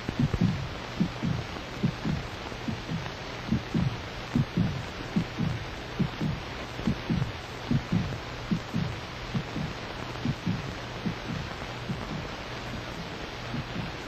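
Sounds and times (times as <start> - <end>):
heartbeat thumps: 0.0 - 14.0
steady hum and hiss: 0.0 - 14.0.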